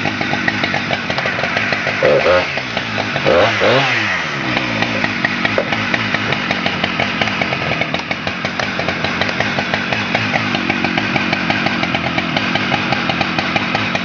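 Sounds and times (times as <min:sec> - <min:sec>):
chainsaw engine running: 0:00.0 - 0:14.0.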